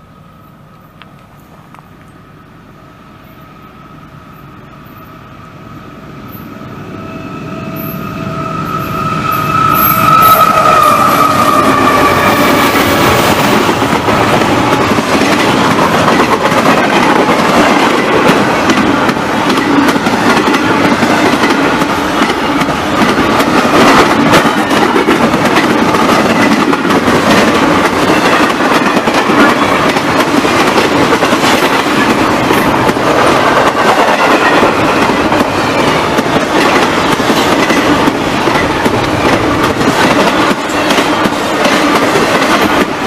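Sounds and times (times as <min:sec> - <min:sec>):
freight train passing: 0:00.0 - 0:43.0
locomotive high whine: 0:00.0 - 0:43.0.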